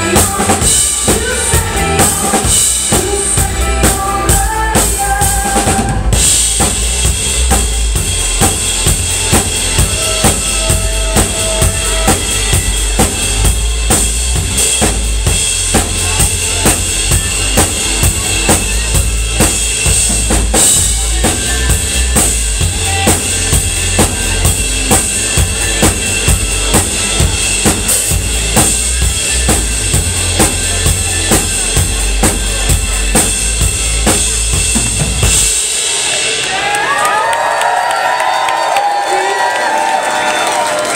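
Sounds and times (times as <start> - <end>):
bass drum and snare beat: 0.0 - 36.2
live rock band playing: 0.0 - 40.9.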